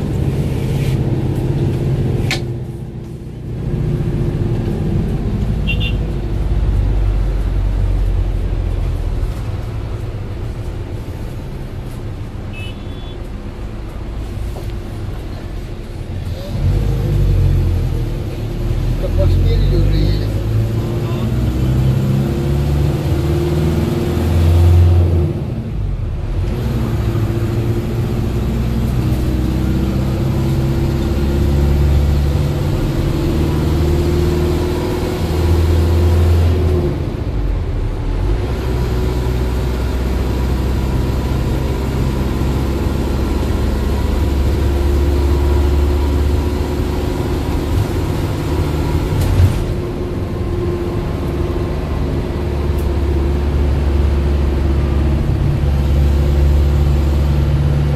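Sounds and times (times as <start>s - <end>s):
road noise: 0.0s - 57.9s
vehicle engine: 0.0s - 57.9s.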